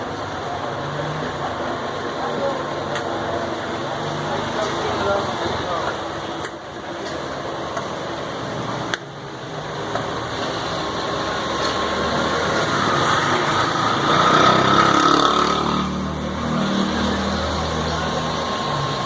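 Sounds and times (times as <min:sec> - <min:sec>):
busy street noise: 0:00.0 - 0:19.0.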